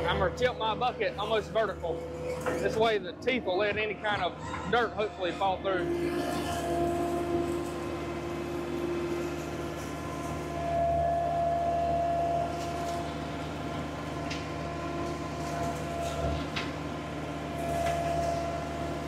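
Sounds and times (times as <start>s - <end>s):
machine whine: 0.0s - 19.0s
skid steer engine running: 0.0s - 19.0s.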